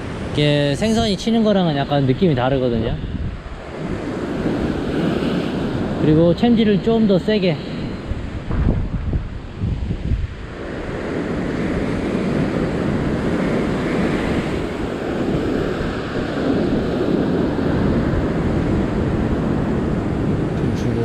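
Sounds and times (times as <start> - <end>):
ocean surf breaking on rocks: 0.0 - 21.0
wind buffeting microphone: 0.0 - 21.0.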